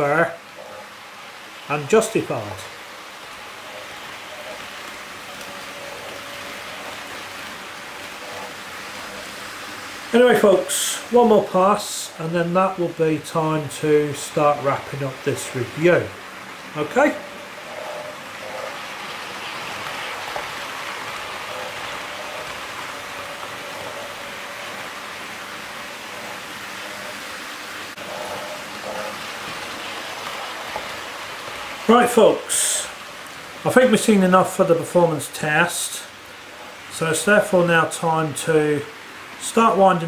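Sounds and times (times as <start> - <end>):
faint motor whine: 0.0 - 40.0
model train wheels rolling on rails: 0.0 - 40.0.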